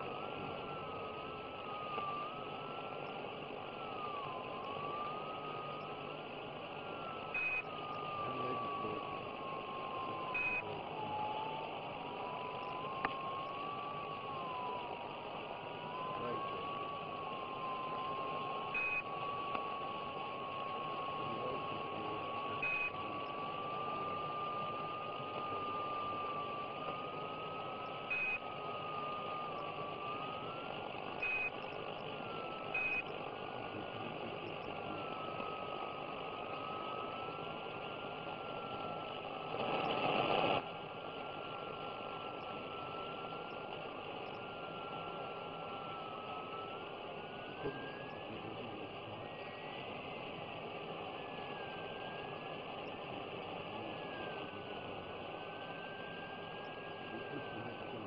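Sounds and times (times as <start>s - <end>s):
thin whistling tone: 0.0s - 40.0s, 41.2s - 58.0s
radio static hiss: 0.0s - 58.0s.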